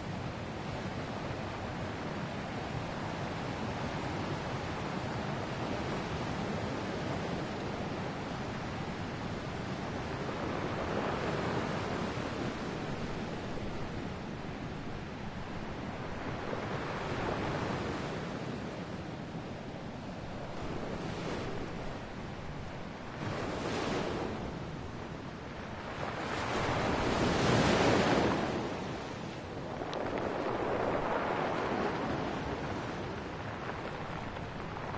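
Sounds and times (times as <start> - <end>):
ocean waves breaking on shore: 0.0 - 34.9.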